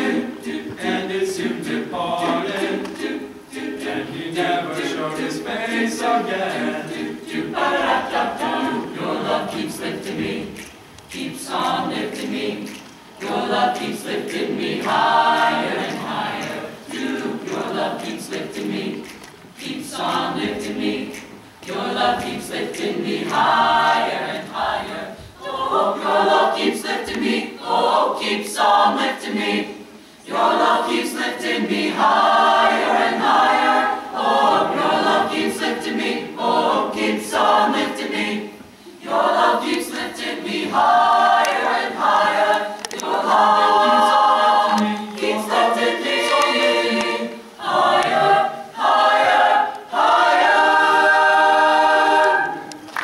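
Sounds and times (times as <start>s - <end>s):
choir singing: 0.0s - 53.0s.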